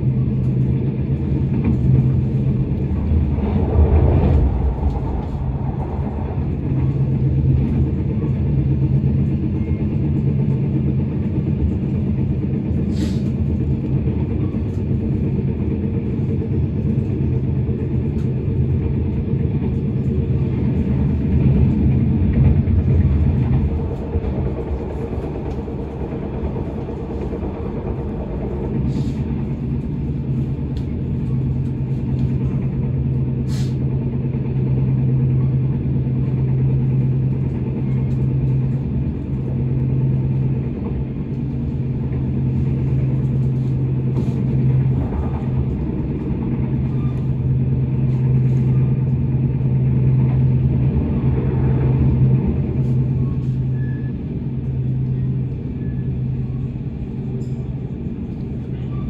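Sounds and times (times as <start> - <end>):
train rumbling on track: 0.0 - 59.0.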